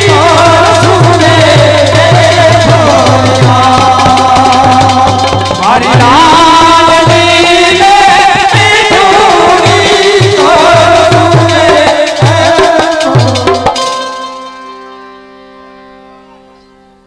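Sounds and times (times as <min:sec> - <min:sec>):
drum beat: 0:00.0 - 0:13.9.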